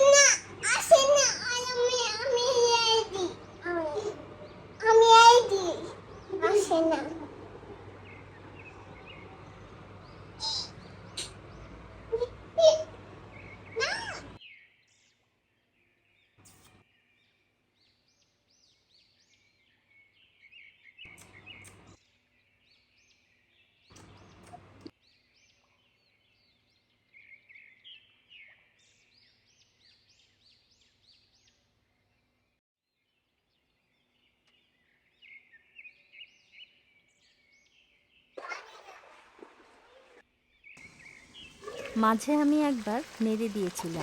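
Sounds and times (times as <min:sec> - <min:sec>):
faint birds chirping: 0:00.0 - 0:44.0.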